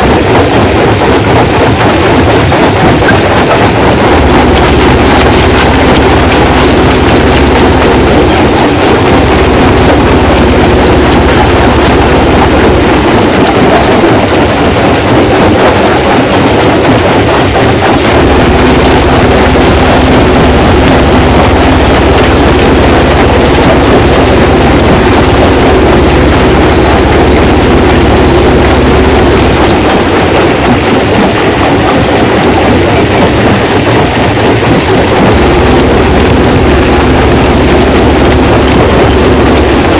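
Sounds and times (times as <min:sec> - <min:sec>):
rock crushing machine rumbling: 0:00.0 - 0:39.9
stone rattling through crusher: 0:00.0 - 0:39.9.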